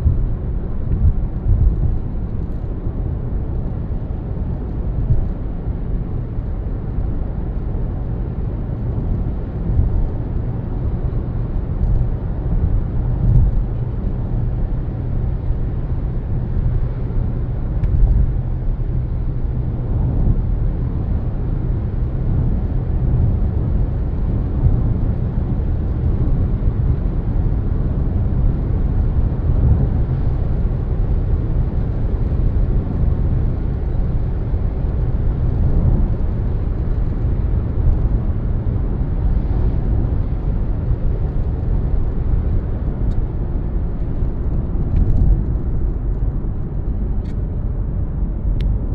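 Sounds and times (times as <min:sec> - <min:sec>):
car tyres and engine rumbling: 0:00.0 - 0:48.9.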